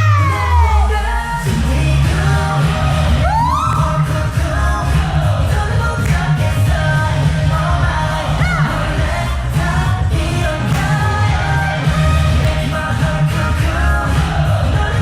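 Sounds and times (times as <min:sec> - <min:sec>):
heavy pulsing bass: 0:00.0 - 0:15.0
person singing: 0:00.0 - 0:15.0
upbeat pop dance music: 0:00.0 - 0:15.0.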